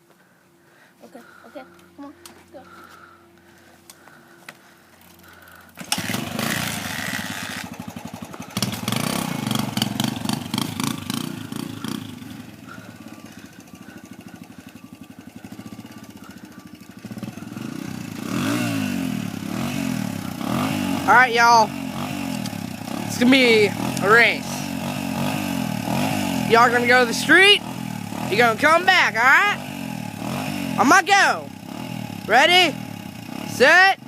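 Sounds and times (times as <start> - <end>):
dirt bike engine revving: 1.2 - 34.0.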